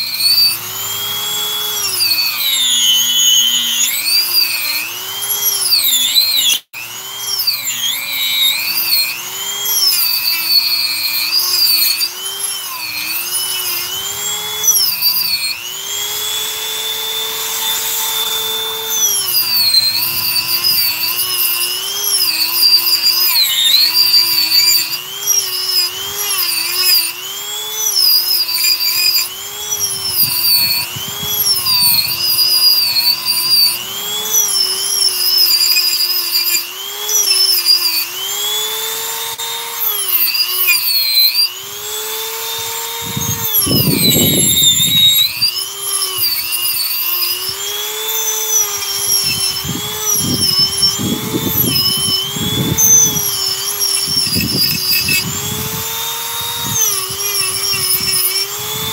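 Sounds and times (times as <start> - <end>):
rotary tool carving wood: 0.0 - 58.9.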